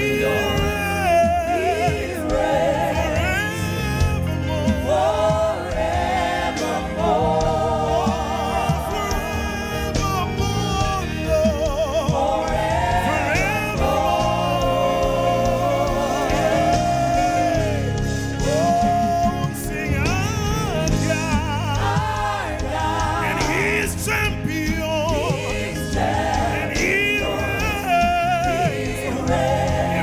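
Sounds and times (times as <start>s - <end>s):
backing vocalists singing: 0.0s - 30.0s
keyboard accompaniment: 0.0s - 30.0s
lead singer: 0.0s - 30.0s.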